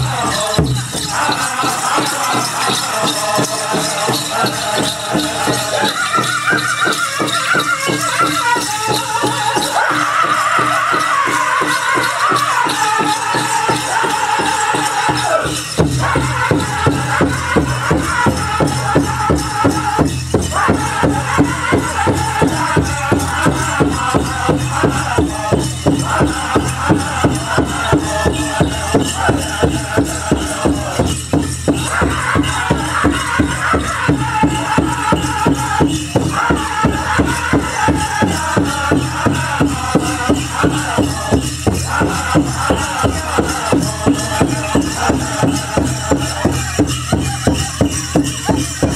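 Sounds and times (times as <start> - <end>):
high-pitched group singing: 0.0 - 48.9
steady drumbeat: 0.0 - 48.9.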